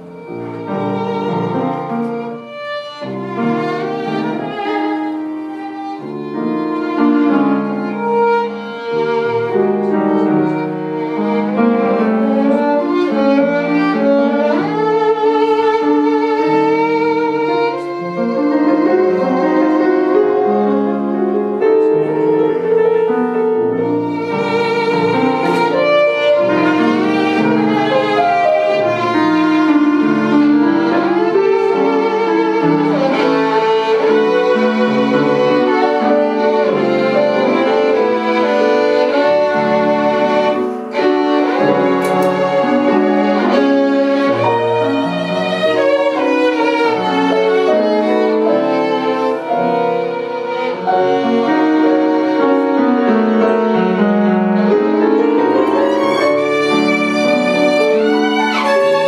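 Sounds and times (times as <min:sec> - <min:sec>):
piano accompaniment: 0:00.0 - 0:59.0
violin melody with vibrato: 0:00.0 - 0:59.0.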